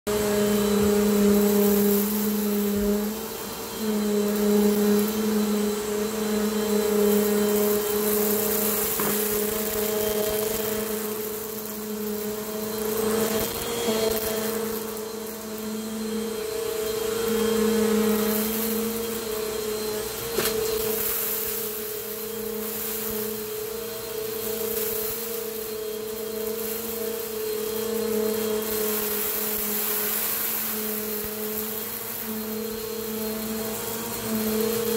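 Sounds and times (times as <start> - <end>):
upright vacuum cleaner running: 0.0 - 34.9.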